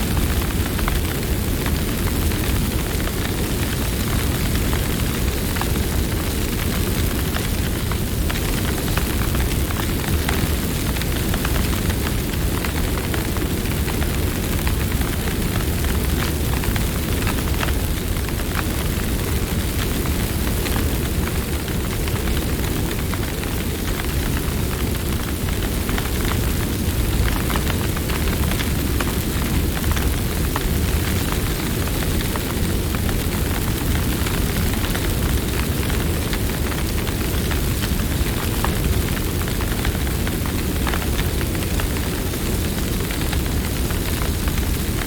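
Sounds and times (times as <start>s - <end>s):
burning wood crackling: 0.0s - 45.0s
flames rumbling: 0.0s - 45.0s.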